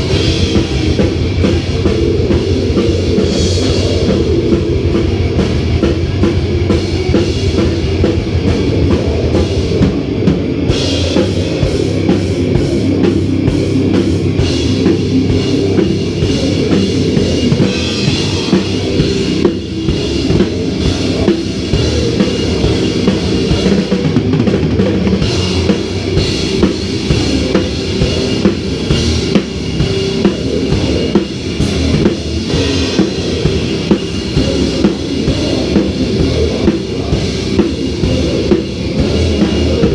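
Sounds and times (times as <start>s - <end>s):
heavy metal band playing: 0.0s - 39.9s
rapid drum strokes and cymbals: 0.0s - 39.9s.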